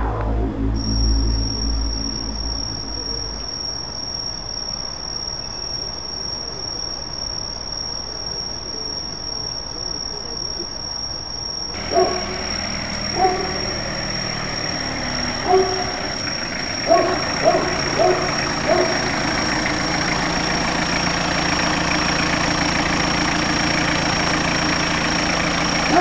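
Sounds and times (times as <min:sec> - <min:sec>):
steady background noise: 0:00.0 - 0:20.9.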